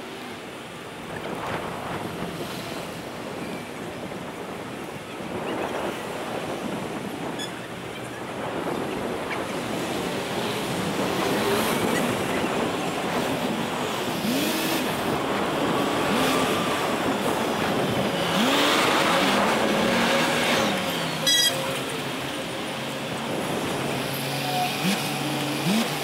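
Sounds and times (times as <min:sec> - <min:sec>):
cars and trucks passing: 0:00.0 - 0:26.0.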